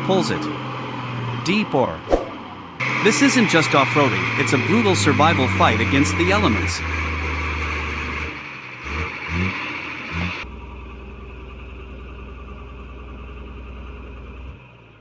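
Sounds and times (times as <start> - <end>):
heavy truck engine revving: 0.0 - 15.0.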